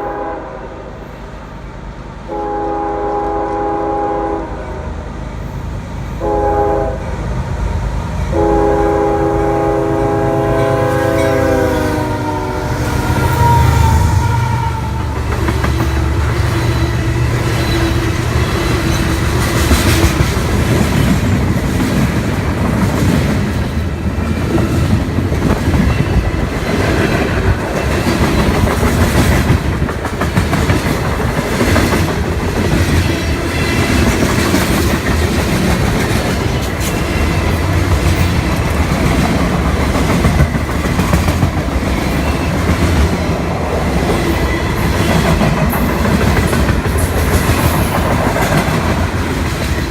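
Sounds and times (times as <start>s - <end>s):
train cars rumbling: 0.0s - 49.9s.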